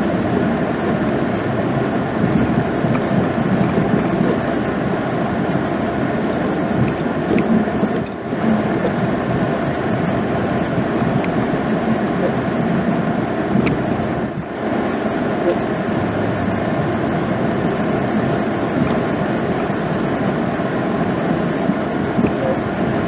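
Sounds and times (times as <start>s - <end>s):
truck engine rumble: 0.0s - 23.0s.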